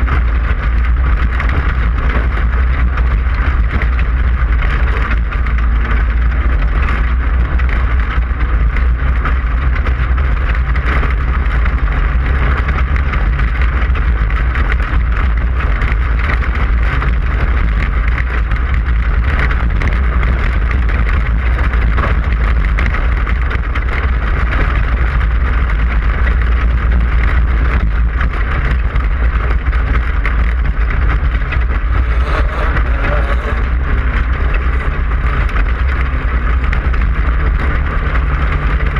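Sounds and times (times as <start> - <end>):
race car engine rumbling: 0.0 - 38.9.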